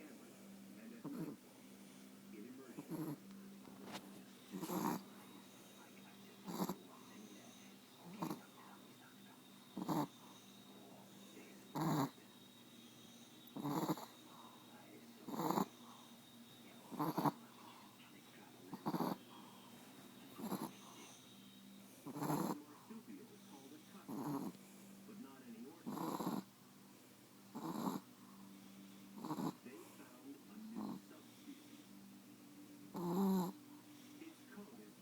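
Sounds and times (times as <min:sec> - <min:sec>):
dog snoring wheezily: 0:01.0 - 0:02.1, 0:02.8 - 0:03.2, 0:03.8 - 0:22.7, 0:23.4 - 0:24.9, 0:25.8 - 0:26.5, 0:27.5 - 0:32.0, 0:32.9 - 0:34.5.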